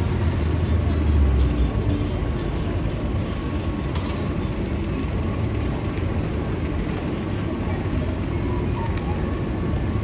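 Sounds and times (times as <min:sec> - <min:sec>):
city street traffic: 0:00.0 - 0:10.0
vehicle engine: 0:00.0 - 0:10.0.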